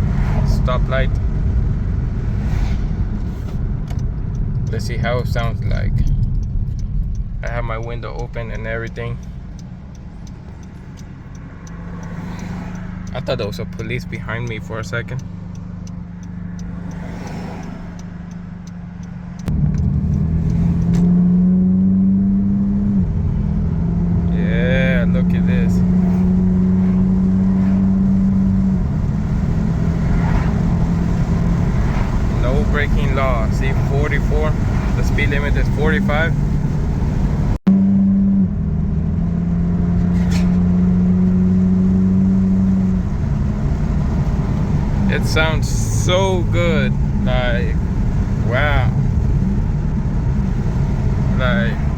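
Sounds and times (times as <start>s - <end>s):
car exhaust drone accelerating: 0.0s - 51.9s.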